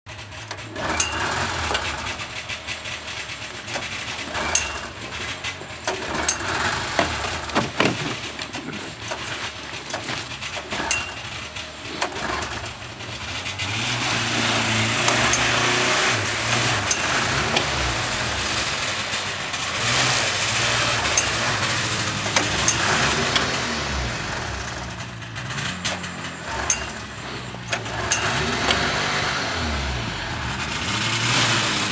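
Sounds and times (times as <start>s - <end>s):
motorcycle engine running: 0.1s - 31.9s
motorcycle engine turning over: 0.1s - 31.9s.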